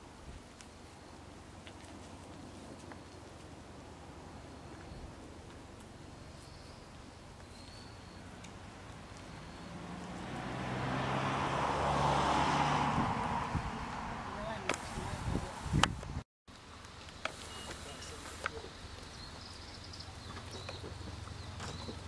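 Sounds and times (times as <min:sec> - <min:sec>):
vehicle engine hum: 0:00.8 - 0:22.0.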